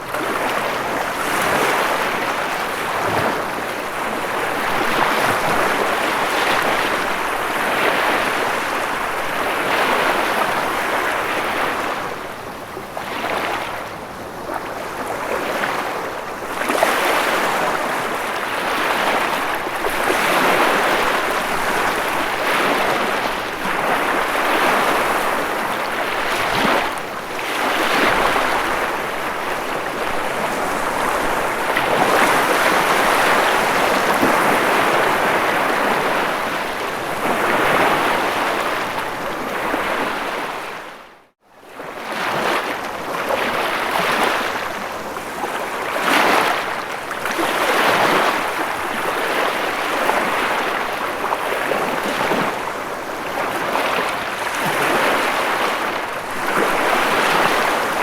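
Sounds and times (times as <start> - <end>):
ocean waves breaking: 0.0 - 41.1, 41.7 - 58.0.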